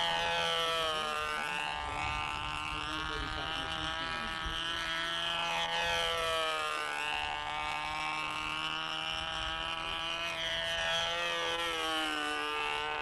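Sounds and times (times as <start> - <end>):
machine drone with overtones: 0.0 - 13.0.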